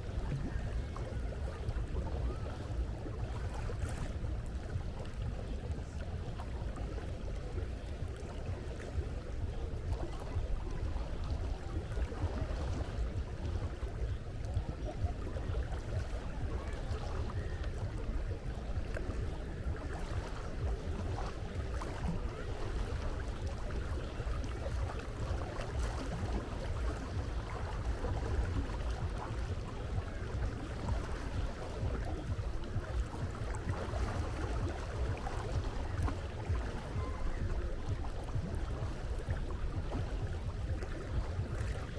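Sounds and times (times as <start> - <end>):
low rumble: 0.0 - 41.9
sea water washing: 0.0 - 41.9.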